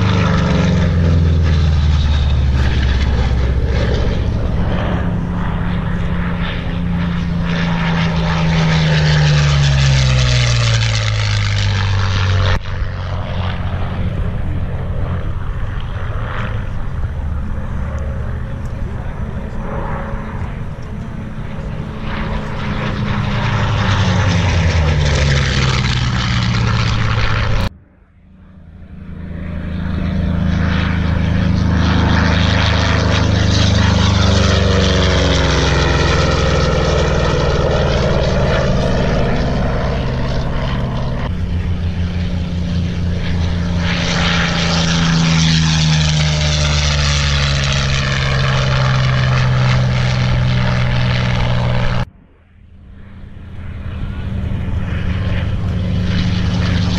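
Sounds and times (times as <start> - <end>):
propeller plane engine drone: 0.0 - 56.9.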